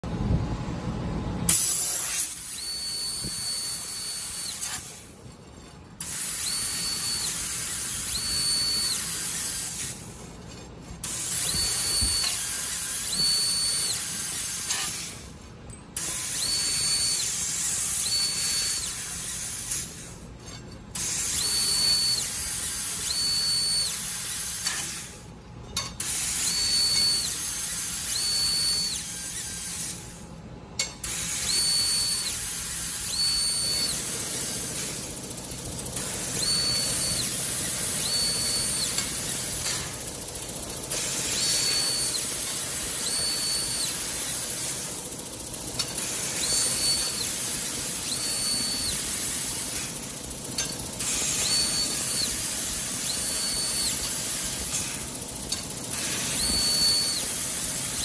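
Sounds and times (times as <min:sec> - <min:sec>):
laser cutter hissing: 0:01.5 - 0:05.1, 0:06.0 - 0:10.2, 0:11.0 - 0:15.3, 0:16.0 - 0:20.0, 0:21.0 - 0:25.2, 0:26.0 - 0:30.1, 0:31.0 - 0:58.0.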